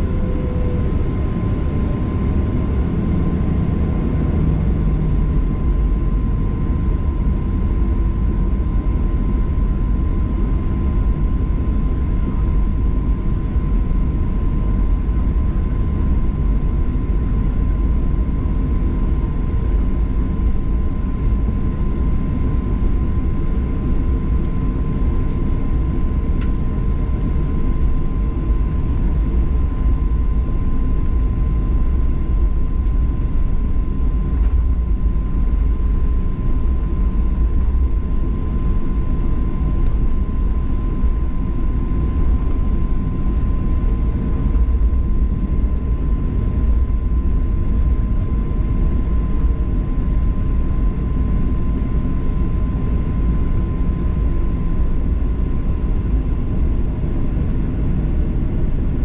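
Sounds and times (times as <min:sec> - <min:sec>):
high engine whine: 0:00.0 - 0:59.0
low cabin rumble: 0:00.0 - 0:59.0.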